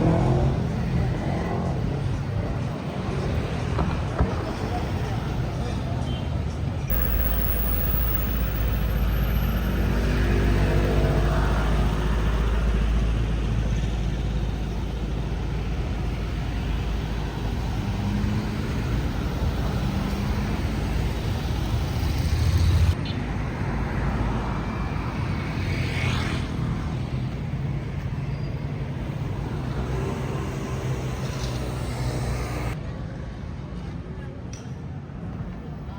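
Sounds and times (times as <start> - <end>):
vehicles passing on road: 0.0 - 35.9.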